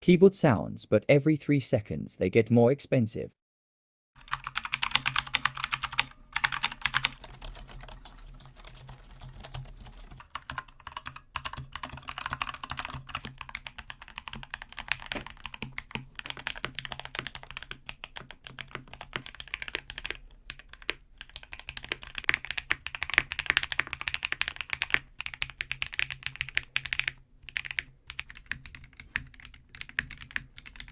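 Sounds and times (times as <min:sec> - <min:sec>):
fast typing on mechanical keyboards: 0:04.2 - 0:30.9.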